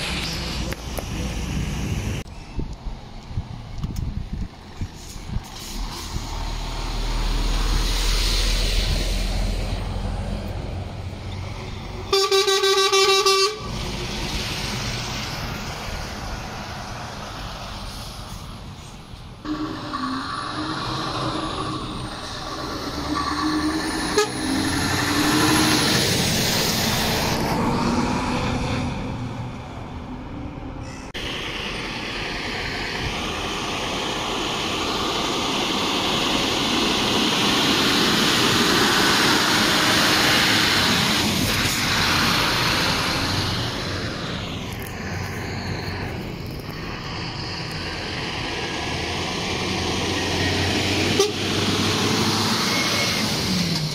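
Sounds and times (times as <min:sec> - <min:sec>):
heavy trucks driving past: 0:00.0 - 0:02.3, 0:03.4 - 0:53.9
tyre and road noise: 0:00.0 - 0:53.9.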